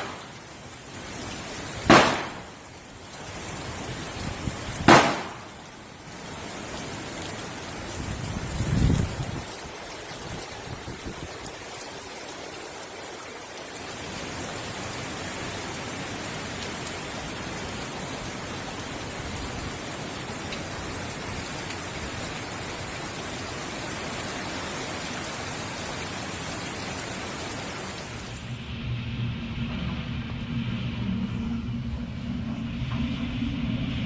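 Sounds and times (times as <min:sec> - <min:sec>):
driving rain: 0:00.0 - 0:34.0
hurricane wind: 0:00.0 - 0:34.0.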